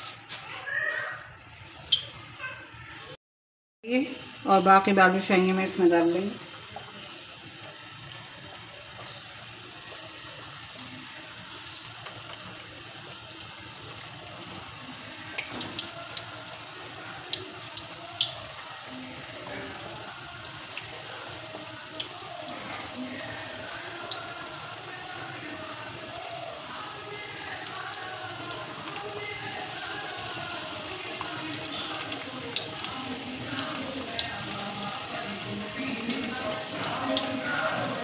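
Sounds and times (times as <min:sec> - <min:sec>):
dough frying in oil: 0:03.8 - 0:38.0
oil crackling and popping: 0:06.5 - 0:38.0.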